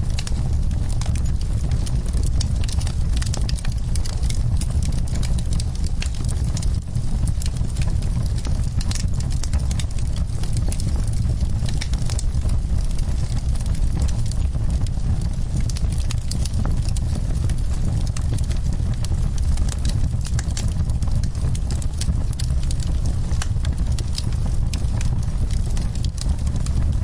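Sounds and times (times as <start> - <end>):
fire popping and snapping: 0.0 - 27.0
wood fire crackling: 0.0 - 27.0.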